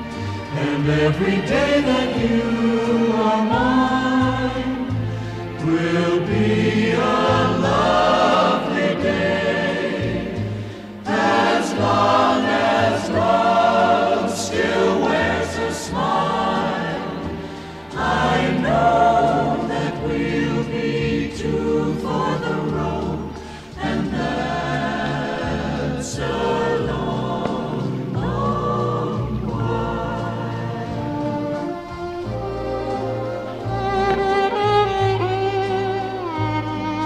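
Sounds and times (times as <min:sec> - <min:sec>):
choral singing: 0:00.0 - 0:36.4.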